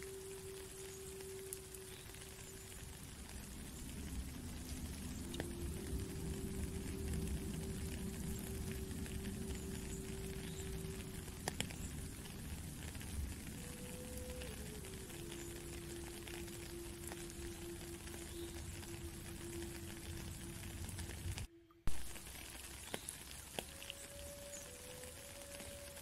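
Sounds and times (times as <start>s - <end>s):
flute playing long notes: 0.0s - 26.0s
rain falling on a puddle: 0.0s - 26.0s.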